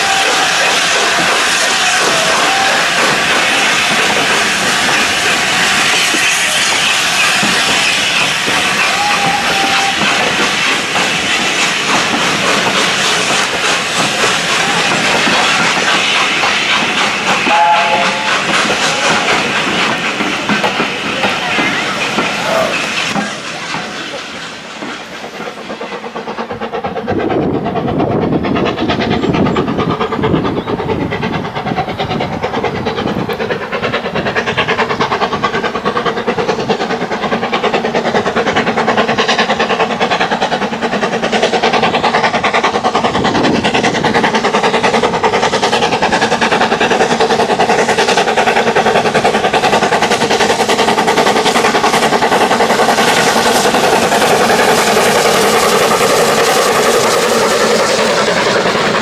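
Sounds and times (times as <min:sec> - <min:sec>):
steam locomotive exhaust beat: 0:00.0 - 0:59.0.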